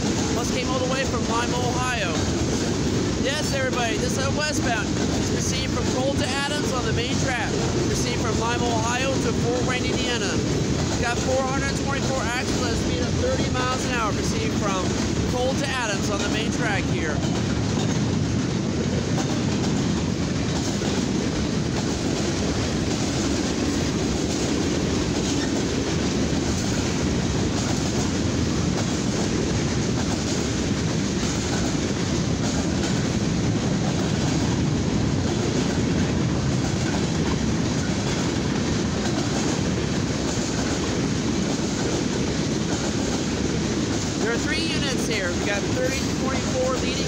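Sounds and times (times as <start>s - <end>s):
train wheels on rails: 0.0s - 47.0s.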